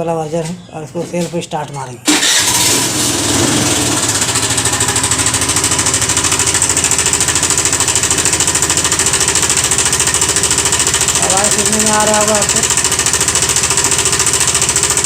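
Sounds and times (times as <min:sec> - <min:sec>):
scooter engine starting: 0:02.0 - 0:15.0
scooter engine idling with clatter: 0:02.2 - 0:15.0.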